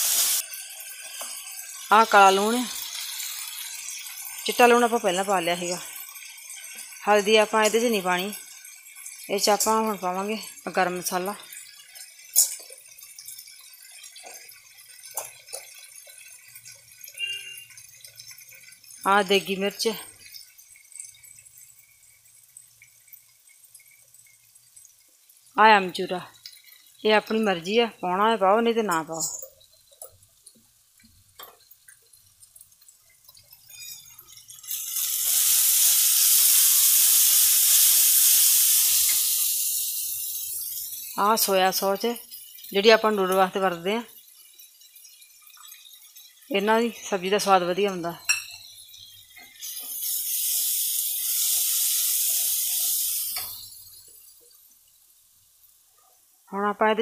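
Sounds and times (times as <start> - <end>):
loud sizzle of frying: 0.0 - 57.0.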